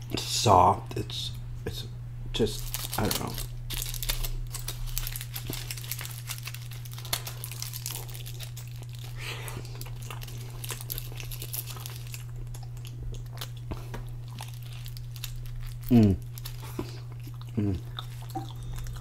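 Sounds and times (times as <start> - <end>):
steady low hum: 0.0 - 19.0
aluminium foil crinkling: 2.5 - 19.0.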